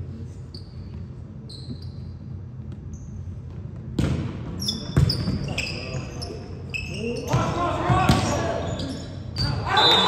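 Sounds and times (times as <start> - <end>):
low rumble of large hall: 0.0 - 10.0
sneakers squeaking on gym floor: 0.4 - 10.0.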